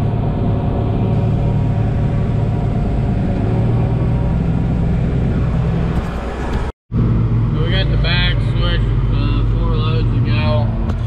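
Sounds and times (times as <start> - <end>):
tractor engine from cab: 0.0 - 11.0.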